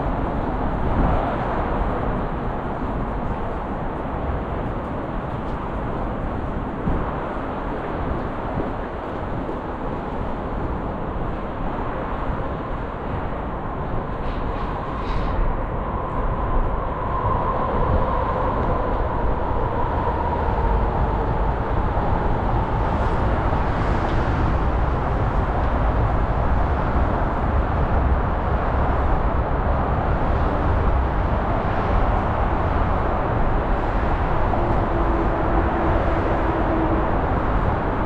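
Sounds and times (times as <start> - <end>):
low city rumble: 0.0 - 38.0.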